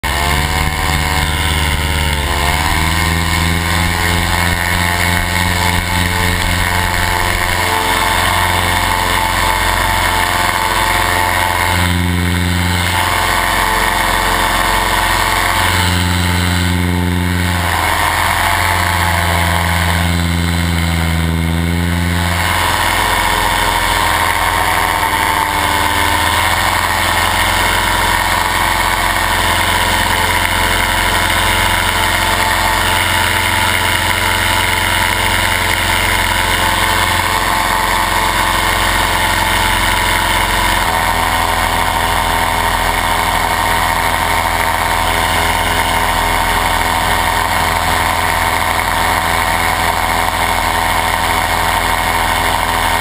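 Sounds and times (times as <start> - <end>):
paramotor engine and propeller: 0.0 - 53.0.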